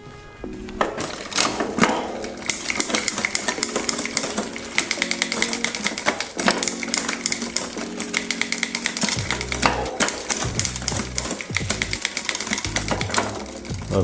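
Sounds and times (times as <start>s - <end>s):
background music: 0.0s - 14.0s
bike hub ratchet ticking: 1.1s - 14.0s.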